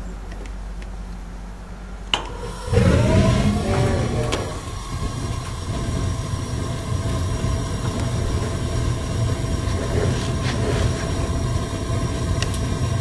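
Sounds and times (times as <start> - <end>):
gas burner flame rumbling: 0.0 - 13.0.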